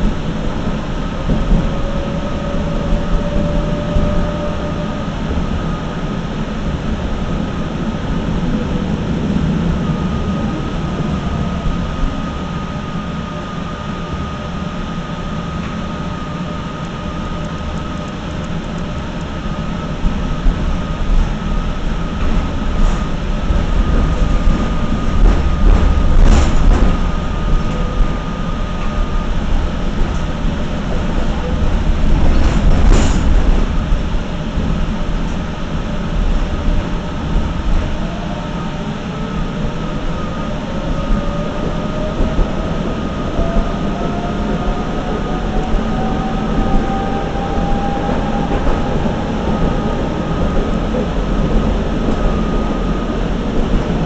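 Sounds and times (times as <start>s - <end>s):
high whine: 0.0s - 54.0s
tram wheels rumbling on rails: 0.0s - 54.0s.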